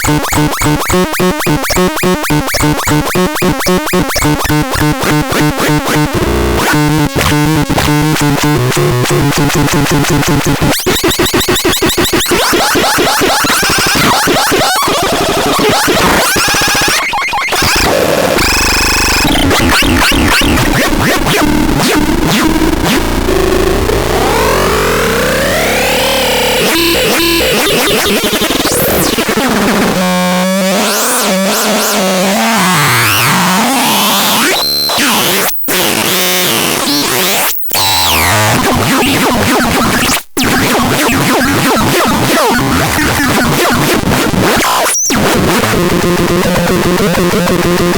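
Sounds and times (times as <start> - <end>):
buzzy synthesizer tone: 0.0 - 44.0.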